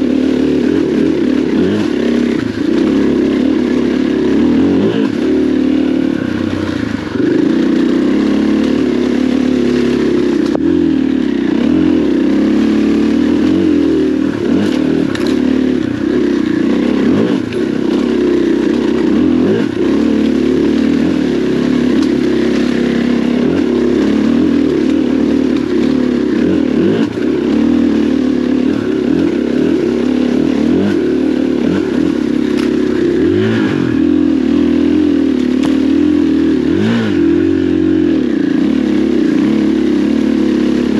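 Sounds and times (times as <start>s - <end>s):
dirt bike engine under load: 0.0s - 40.9s.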